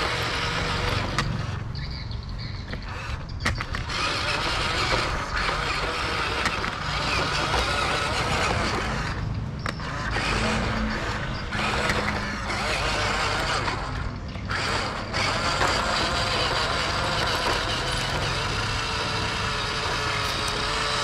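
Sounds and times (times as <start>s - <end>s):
toy truck motors and gears whirring: 0.0s - 21.0s
wheels rolling over gritty concrete: 0.0s - 21.0s.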